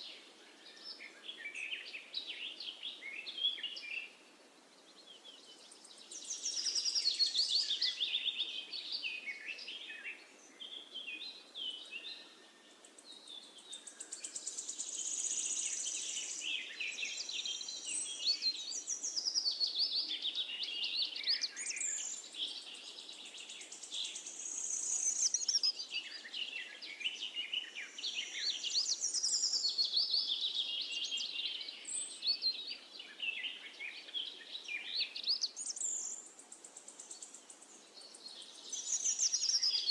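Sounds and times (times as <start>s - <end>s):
birds chirping and trilling: 4.8s - 39.9s.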